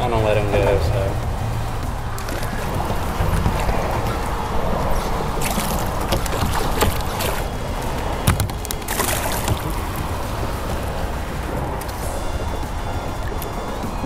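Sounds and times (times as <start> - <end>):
water lapping against a hull: 0.0 - 14.0
wind noise on microphone: 0.0 - 14.0
fish splashing into water: 1.4 - 13.9.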